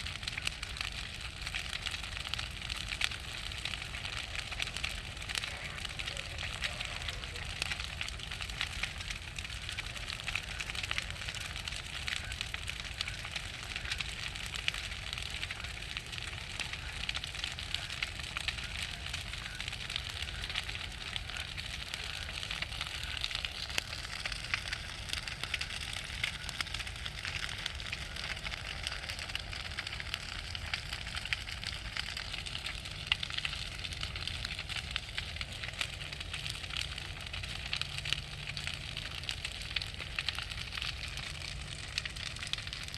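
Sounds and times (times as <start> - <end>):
bonfire crackling: 0.0 - 42.9.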